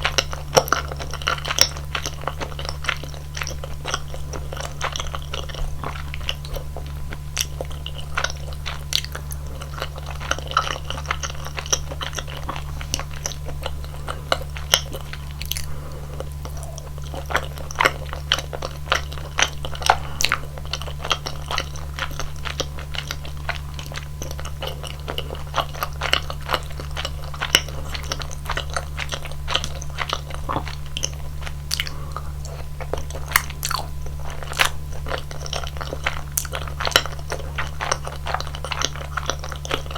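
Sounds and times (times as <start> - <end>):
chewing sticky food: 0.0 - 39.9
low steady hum: 0.0 - 39.9.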